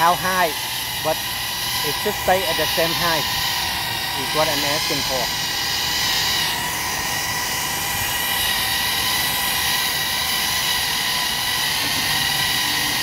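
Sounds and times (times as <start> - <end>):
drone propeller whine: 0.0 - 13.0.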